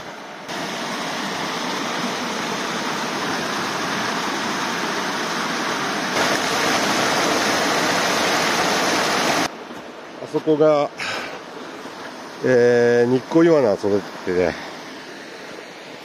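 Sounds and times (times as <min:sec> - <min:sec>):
water rushing from inlet: 0:00.0 - 0:16.0.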